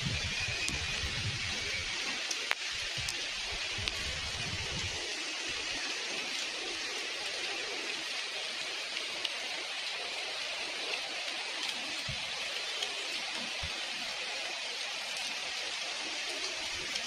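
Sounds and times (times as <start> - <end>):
steady rain falling: 0.0 - 17.0
sharp raindrop ticks: 0.2 - 17.0.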